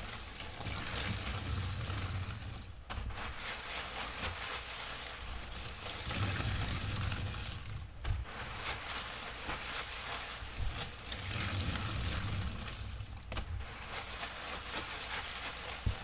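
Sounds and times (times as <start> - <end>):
sponge squelching foam: 0.0 - 16.0.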